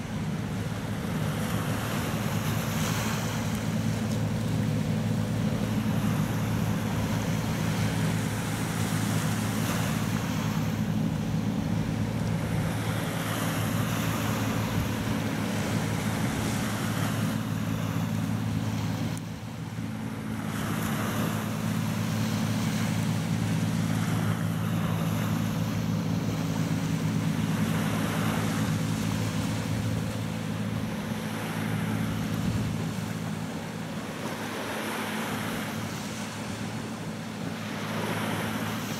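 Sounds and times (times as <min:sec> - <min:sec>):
boat diesel engine running: 0:00.0 - 0:38.9
rush of bow wave and wake: 0:00.0 - 0:38.9.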